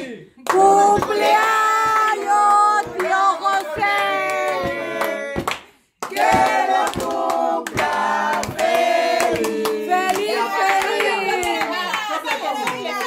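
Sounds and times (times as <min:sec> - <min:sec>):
group singing birthday song: 0:00.0 - 0:13.0
hand claps: 0:00.4 - 0:13.0.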